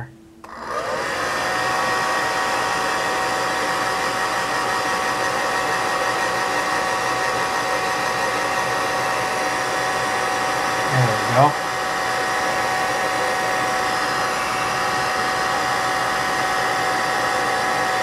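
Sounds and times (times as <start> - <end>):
hair dryer blowing: 0.4 - 18.0.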